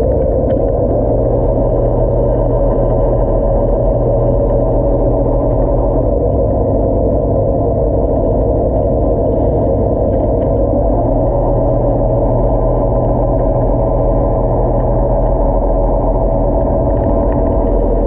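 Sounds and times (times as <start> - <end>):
underwater electric motor hum: 0.0 - 18.0.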